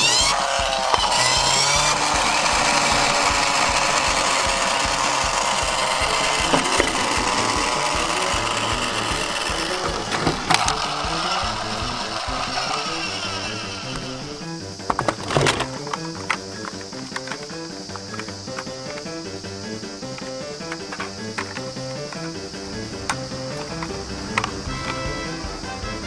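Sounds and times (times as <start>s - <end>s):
sharp clicks: 0.0s - 25.1s
background music: 0.0s - 26.0s
toy motor whirring: 0.0s - 26.0s.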